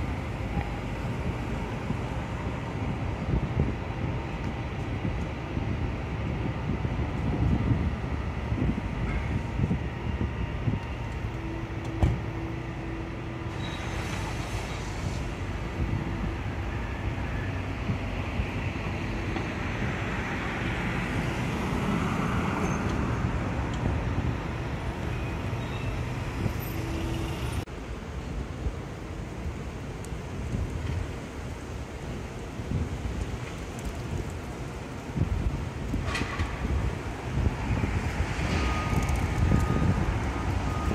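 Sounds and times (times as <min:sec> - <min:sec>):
motor and traffic noise: 0:00.0 - 0:40.9.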